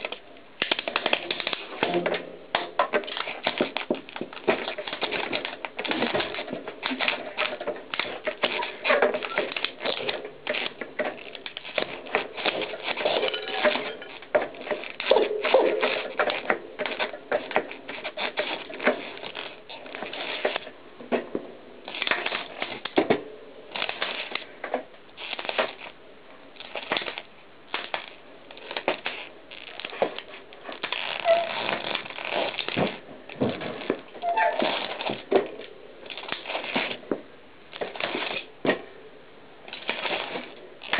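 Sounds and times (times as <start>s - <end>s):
bike tyre crushing plastic pieces: 0.0s - 39.0s, 39.6s - 40.9s.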